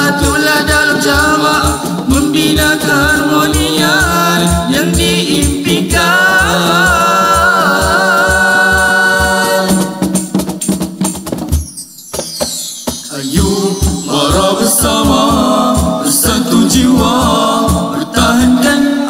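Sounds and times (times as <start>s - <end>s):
group singing in harmony: 0.0s - 10.4s, 12.6s - 19.0s
hand drum beat: 0.0s - 18.8s
sharp percussion strikes: 0.0s - 18.8s.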